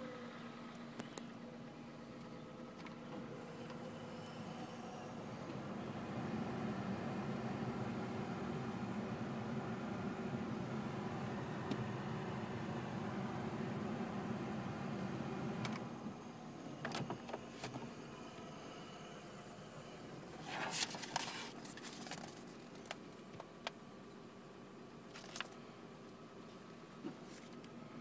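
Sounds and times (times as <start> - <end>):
blower fan hum: 0.0 - 28.0.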